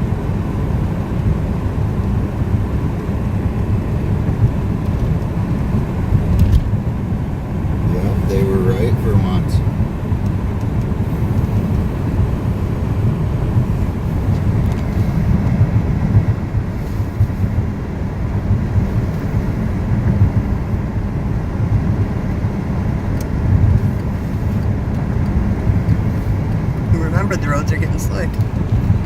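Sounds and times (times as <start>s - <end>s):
tyre and road noise: 0.0s - 29.0s.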